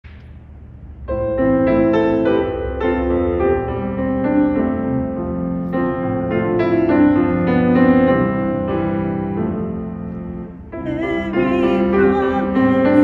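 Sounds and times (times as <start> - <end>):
solo piano hymn introduction: 1.0 - 13.0.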